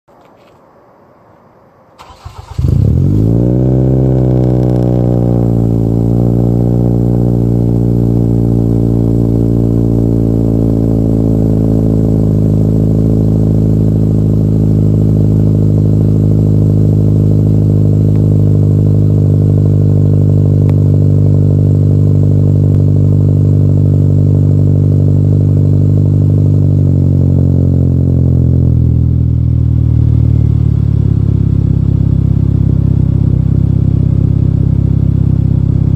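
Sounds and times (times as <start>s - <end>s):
car engine cold start and idle: 1.9s - 35.9s.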